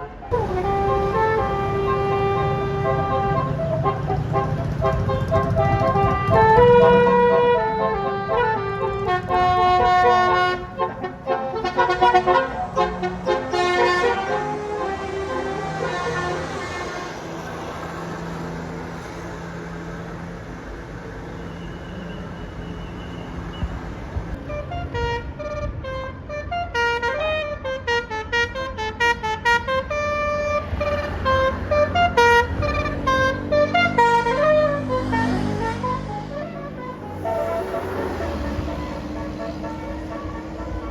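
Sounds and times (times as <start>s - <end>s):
bus horn playing a tune: 0.0s - 19.6s, 24.4s - 40.9s
traffic noise: 0.0s - 40.9s.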